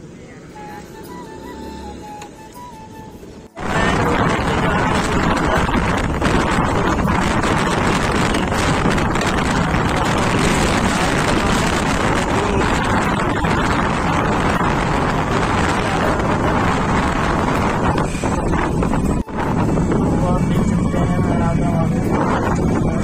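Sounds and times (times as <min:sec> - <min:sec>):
road noise: 0:00.0 - 0:23.0
wind buffeting microphone: 0:03.6 - 0:23.0.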